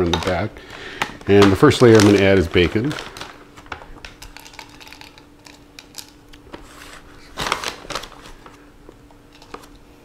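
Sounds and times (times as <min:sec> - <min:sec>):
plastic bag rustling: 0:00.0 - 0:09.8
faint steady hum: 0:00.0 - 0:10.0.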